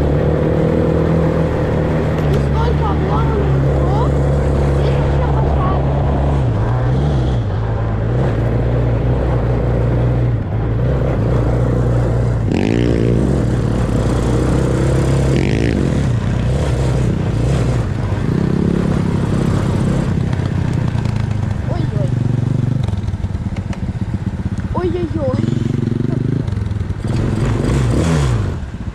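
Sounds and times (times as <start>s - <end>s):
off-road vehicle engine: 0.0s - 28.9s.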